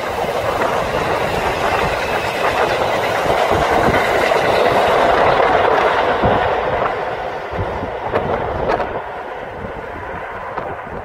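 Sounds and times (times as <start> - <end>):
electric train running on rails: 0.0 - 11.0.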